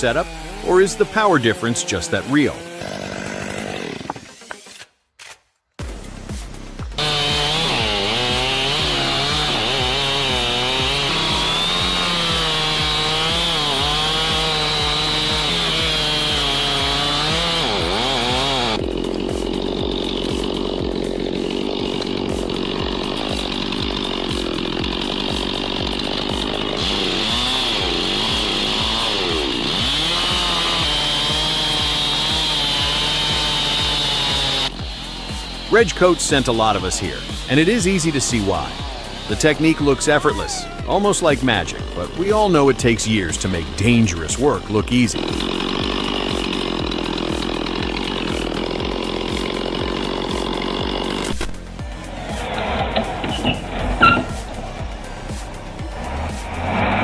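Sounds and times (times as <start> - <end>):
chainsaws cutting into a log: 0.0 - 57.0.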